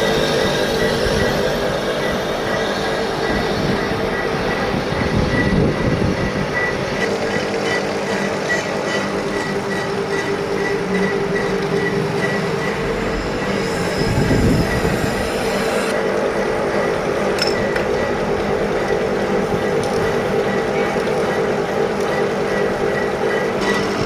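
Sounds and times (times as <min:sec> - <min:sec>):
lathe humming: 0:00.0 - 0:24.0.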